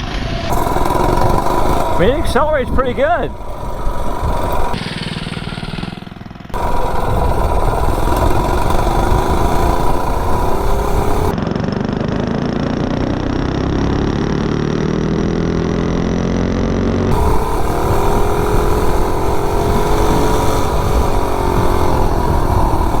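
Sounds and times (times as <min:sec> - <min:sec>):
mini bike engine running: 0:00.4 - 0:23.0.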